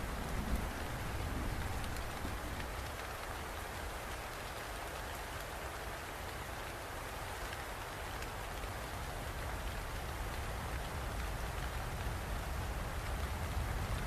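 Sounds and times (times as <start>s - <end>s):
raindrops ticking on surface: 0.0s - 14.0s.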